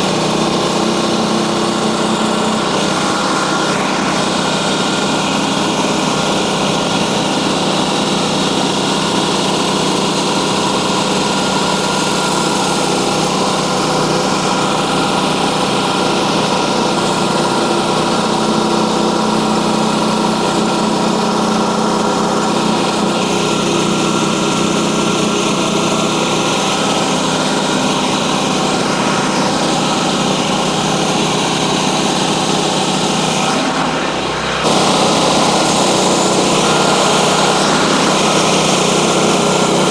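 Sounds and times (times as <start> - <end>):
band blade sawing log: 0.0 - 39.9
small engine running: 0.0 - 39.9.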